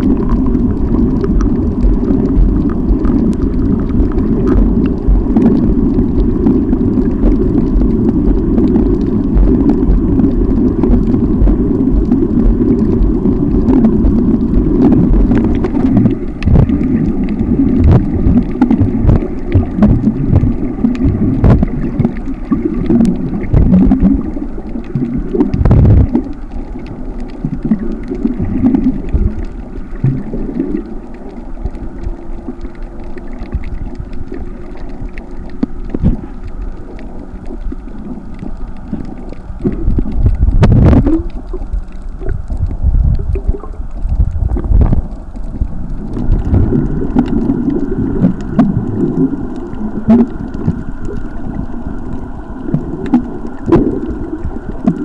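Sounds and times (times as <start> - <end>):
muffled underwater rushing water: 0.0 - 55.0.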